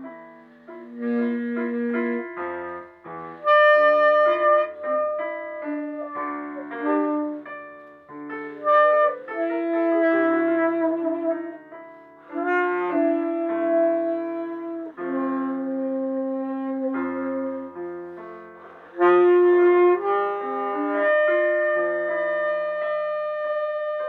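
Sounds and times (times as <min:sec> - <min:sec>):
free jazz piano chords: 0:00.0 - 0:24.0
tenor saxophone long notes: 0:00.0 - 0:24.0.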